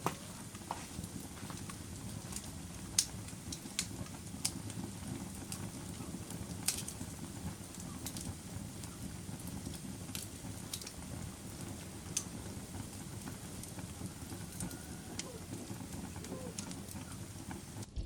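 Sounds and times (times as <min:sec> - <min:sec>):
campfire flames rumbling: 0:00.0 - 0:18.0
wood crackling and popping: 0:00.0 - 0:18.0.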